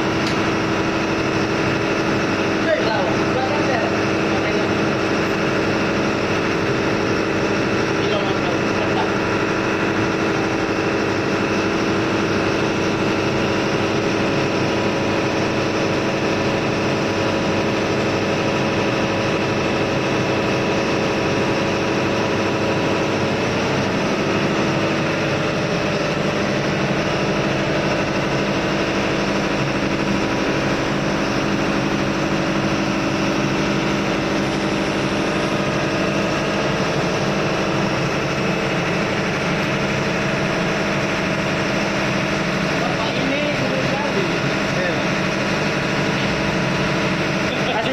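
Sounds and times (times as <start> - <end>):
engine room machinery drone: 0.0 - 47.9.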